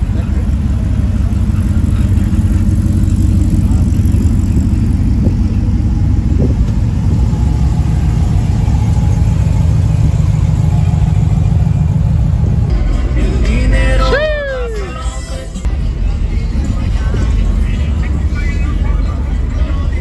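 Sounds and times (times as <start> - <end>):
pickup truck engine idling: 0.0 - 20.0.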